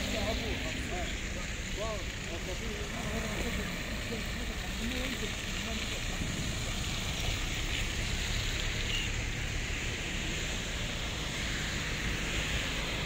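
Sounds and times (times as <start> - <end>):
vehicles idling: 0.0 - 13.0.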